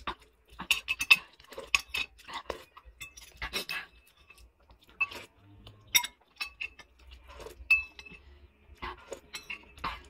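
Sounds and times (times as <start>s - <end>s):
cutlery clinking on ceramic bowl: 0.1s - 8.3s, 8.9s - 10.0s.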